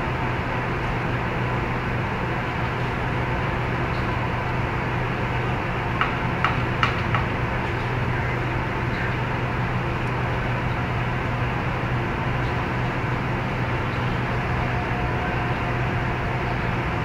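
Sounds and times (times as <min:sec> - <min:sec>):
low machine hum and hiss: 0:00.0 - 0:17.0.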